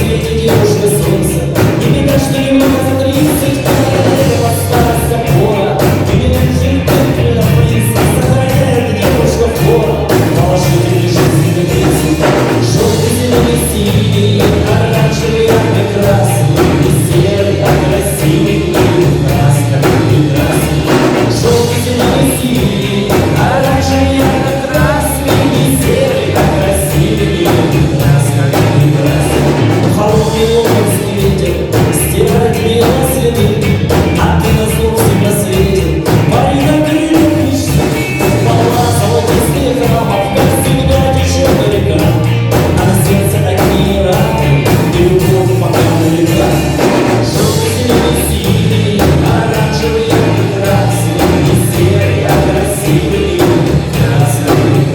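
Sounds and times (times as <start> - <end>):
bass guitar: 0.0 - 54.9
drums: 0.0 - 54.9
person singing: 0.0 - 54.9.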